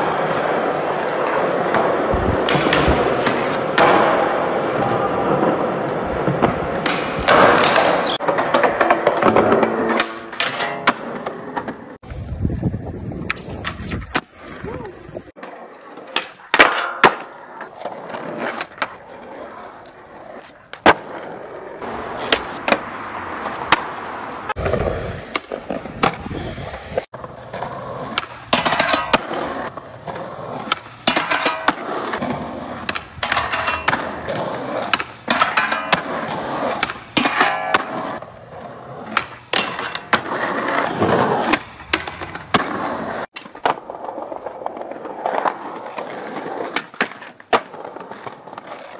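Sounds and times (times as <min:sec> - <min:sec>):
skateboard popping and landing: 0:00.0 - 0:12.0, 0:13.1 - 0:48.9
skateboard wheels rolling: 0:00.0 - 0:48.9.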